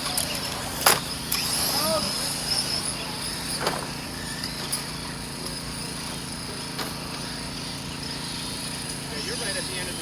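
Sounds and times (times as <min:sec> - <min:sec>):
rc car motor whine: 0:00.0 - 0:10.0
rc cars knocking: 0:00.0 - 0:10.0.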